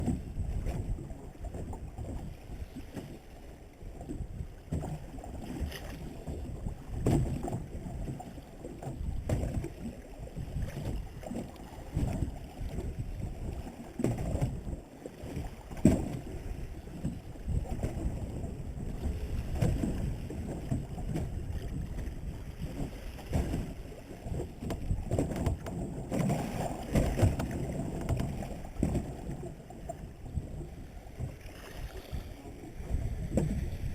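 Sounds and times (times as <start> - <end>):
muffled water noise: 0.0 - 33.9.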